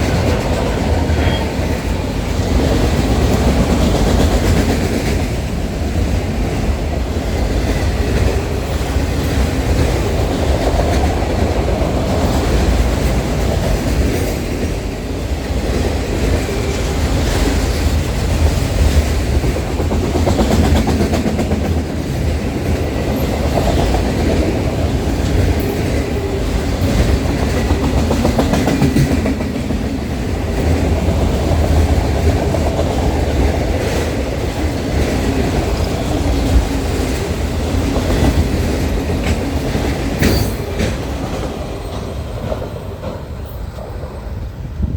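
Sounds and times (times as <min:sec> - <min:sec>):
train wheels clicking over rail joints: 0:00.0 - 0:44.7
train rolling low rumble: 0:00.0 - 0:44.9.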